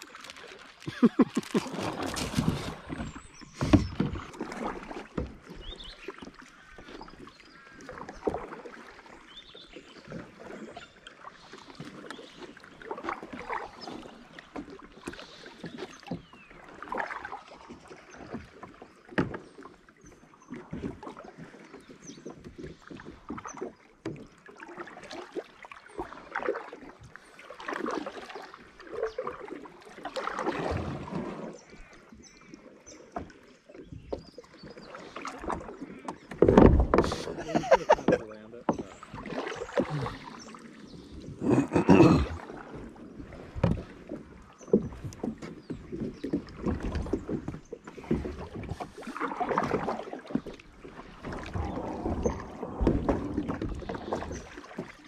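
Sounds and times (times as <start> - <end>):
kayak paddle strokes in water: 0.0 - 55.0.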